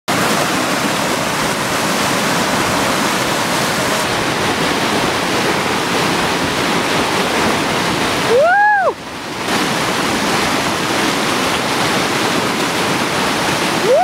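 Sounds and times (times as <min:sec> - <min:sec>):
whitewater rapids roaring: 0:00.1 - 0:14.0.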